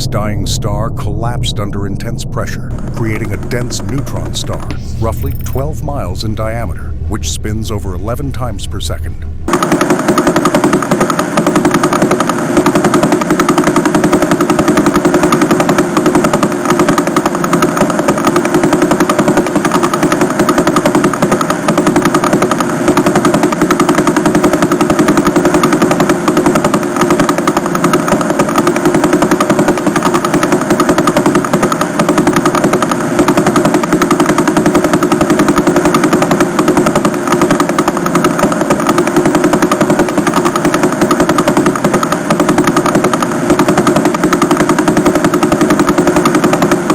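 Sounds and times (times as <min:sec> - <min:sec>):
rapid train of radio pulses: 0:00.0 - 0:46.9.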